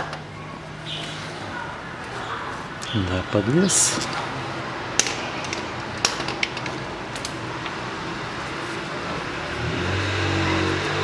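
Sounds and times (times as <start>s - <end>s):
vehicle engine hum: 1.8s - 11.0s.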